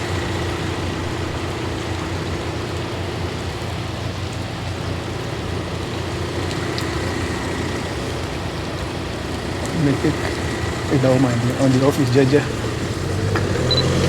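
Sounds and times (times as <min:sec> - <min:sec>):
engine idling: 0:00.0 - 0:14.0
heavy rain falling: 0:00.0 - 0:14.0.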